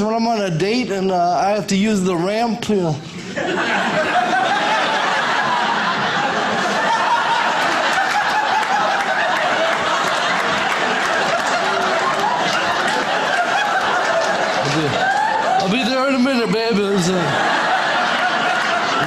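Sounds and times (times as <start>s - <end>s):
audience laughing: 3.1s - 19.0s.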